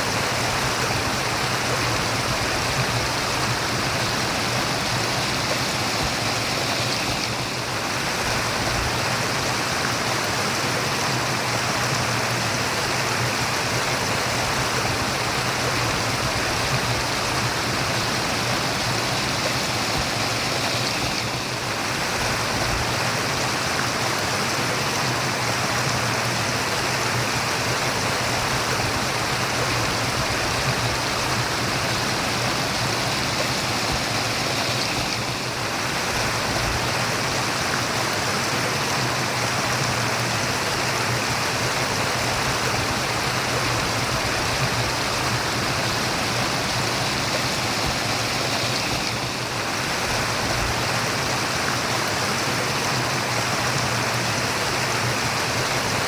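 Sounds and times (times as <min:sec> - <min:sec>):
stream of water running: 0:00.0 - 0:56.0.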